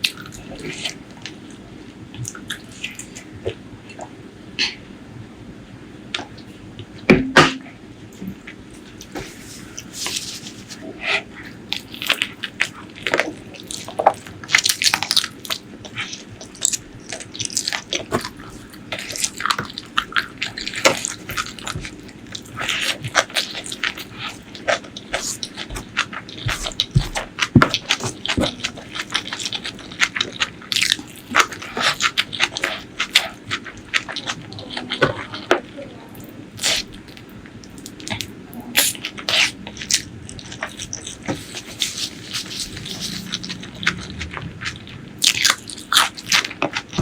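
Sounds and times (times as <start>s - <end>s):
close-miked wet chewing: 8.4s - 47.0s.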